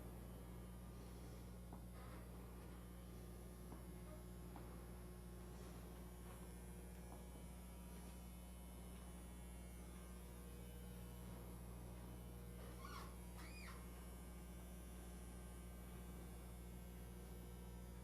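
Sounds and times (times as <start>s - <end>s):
faint electrical mains hum: 0.0s - 18.0s.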